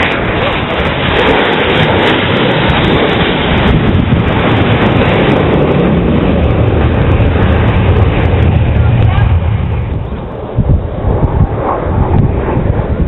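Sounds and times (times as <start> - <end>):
jets roaring overhead: 0.0 - 13.0.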